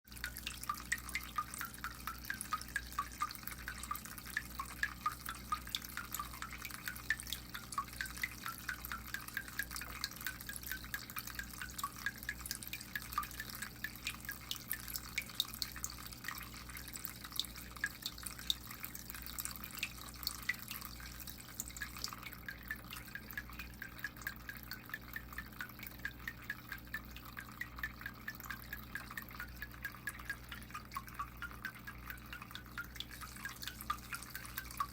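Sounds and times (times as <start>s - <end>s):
low steady hum: 0.1s - 34.9s
water dripping: 0.1s - 34.9s.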